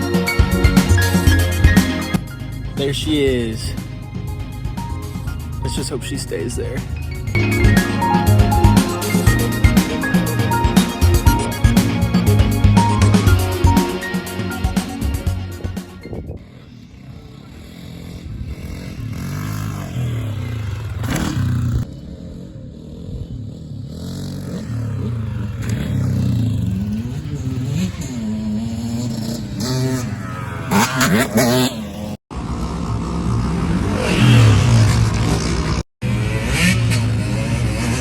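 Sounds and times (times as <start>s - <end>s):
vehicle engine revving: 0.0s - 38.0s.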